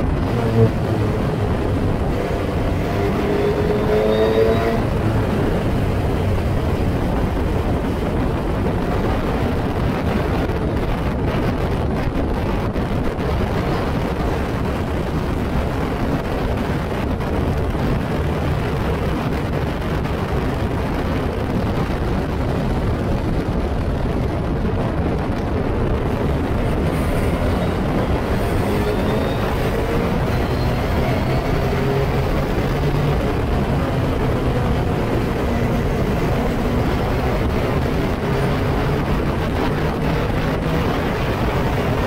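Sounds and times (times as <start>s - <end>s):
race car engine running: 0.0s - 42.0s
wind howling over microphone: 0.0s - 42.0s.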